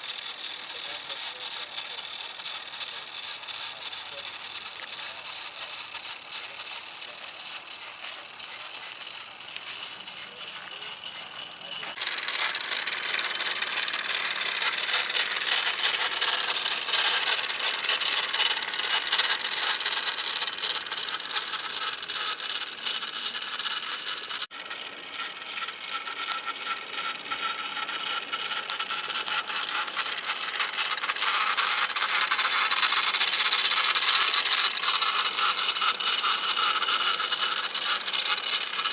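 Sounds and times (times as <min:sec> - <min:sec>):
model steam engine clatter: 0:00.0 - 0:38.9.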